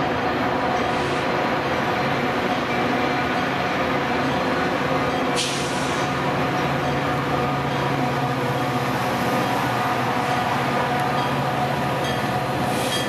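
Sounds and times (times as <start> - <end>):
diesel locomotive droning: 0.0 - 13.0.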